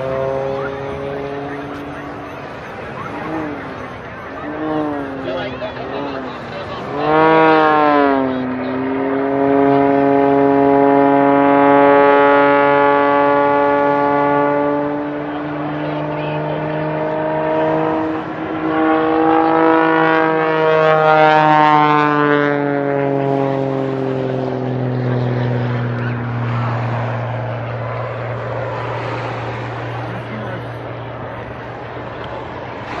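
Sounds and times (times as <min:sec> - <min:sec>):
propeller plane engine droning: 0:00.0 - 0:33.0.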